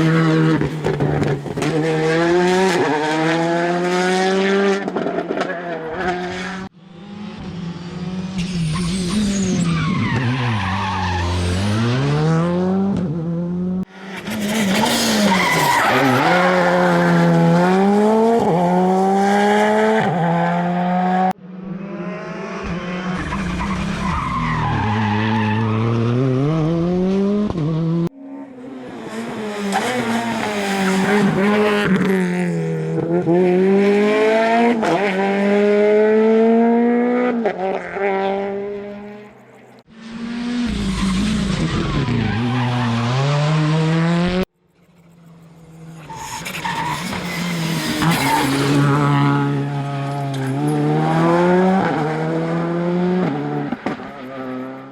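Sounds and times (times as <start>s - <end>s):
rally car engine accelerating: 0.0s - 39.2s, 39.9s - 44.5s, 45.1s - 54.9s.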